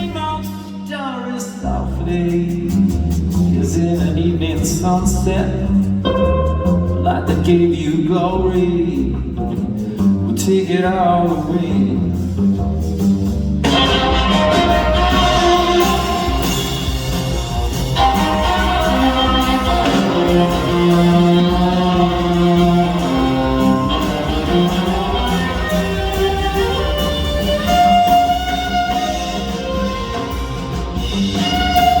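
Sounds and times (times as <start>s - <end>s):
live band playing instrumental: 2.1s - 32.0s.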